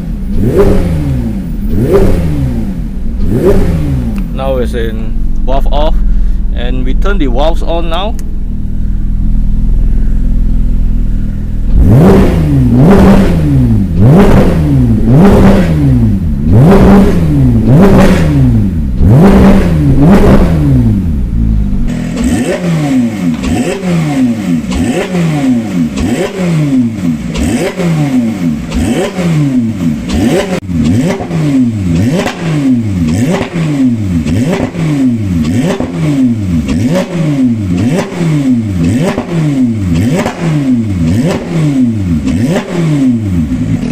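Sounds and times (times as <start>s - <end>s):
sports car engine revving: 0.0s - 43.9s.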